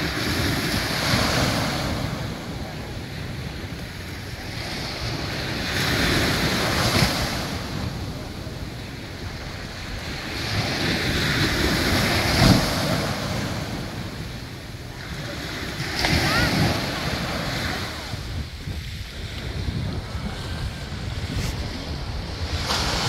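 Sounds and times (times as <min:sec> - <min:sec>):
small waves breaking on shore: 0:00.0 - 0:23.0
wind rumble on microphone: 0:00.0 - 0:23.0.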